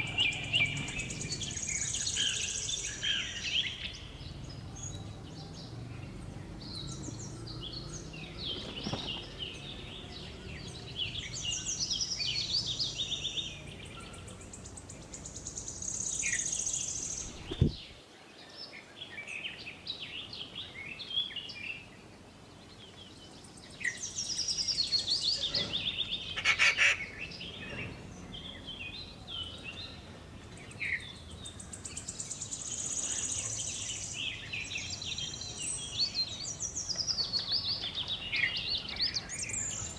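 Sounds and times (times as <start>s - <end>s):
birds calling and chirping: 0.0s - 39.9s.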